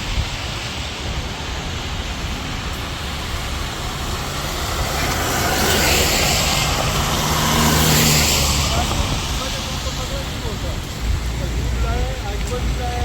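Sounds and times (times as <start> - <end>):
car engines: 0.0 - 13.0
tyres hissing on wet asphalt: 0.0 - 13.0.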